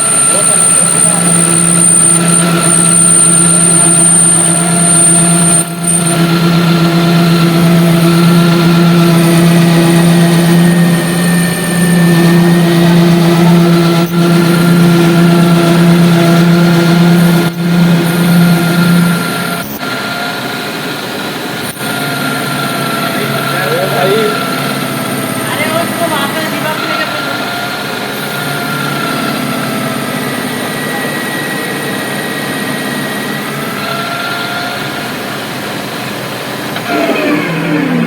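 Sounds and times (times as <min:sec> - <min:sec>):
lathe running: 0:00.0 - 0:38.0.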